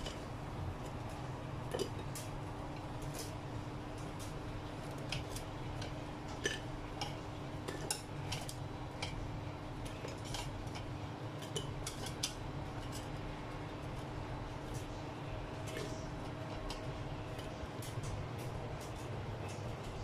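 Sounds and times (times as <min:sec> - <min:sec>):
chopsticks clicking on metal basket: 0:00.0 - 0:20.0
steady low hum: 0:00.0 - 0:20.0.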